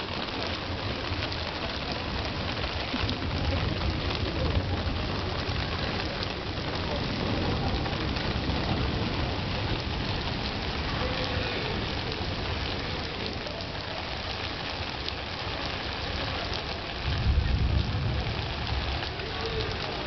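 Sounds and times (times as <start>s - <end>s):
heavy rain on paving: 0.0s - 20.0s
raindrops ticking on umbrella: 0.0s - 20.0s.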